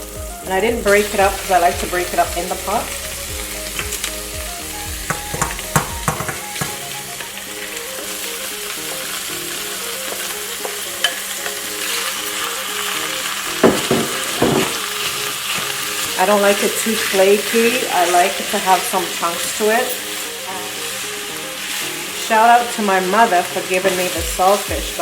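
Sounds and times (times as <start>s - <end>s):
fish frying in oil: 0.0s - 25.0s.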